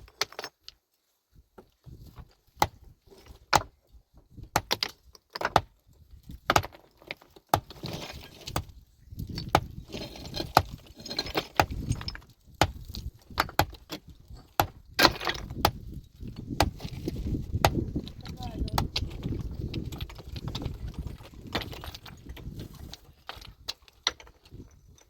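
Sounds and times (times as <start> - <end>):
stones clattering and scraping: 0.0 - 0.8, 1.4 - 25.0
tools striking rock: 2.5 - 3.8, 4.4 - 25.0.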